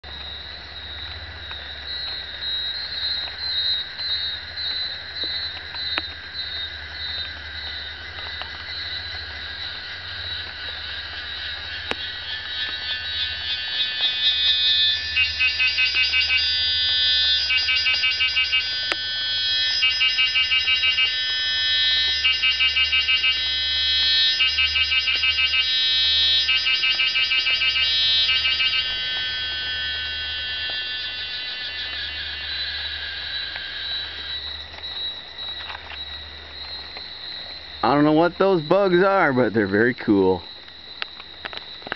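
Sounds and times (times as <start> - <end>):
insects buzzing chorus: 0.0 - 41.9
loud pulsed insect call: 0.0 - 41.9.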